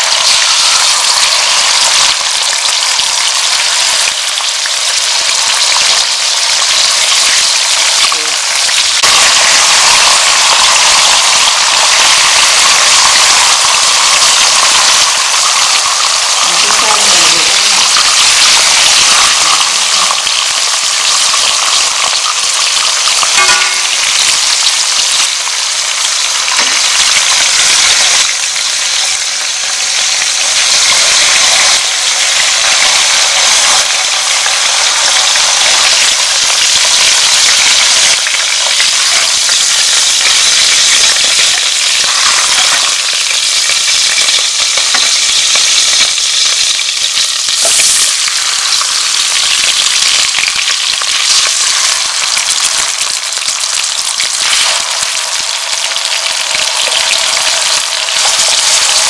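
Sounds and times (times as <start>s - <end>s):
fish frying in hot oil: 0.0s - 59.0s.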